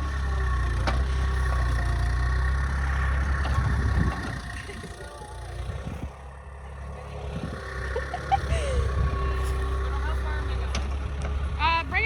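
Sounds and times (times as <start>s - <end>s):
excavator engine whining: 0.0s - 12.0s.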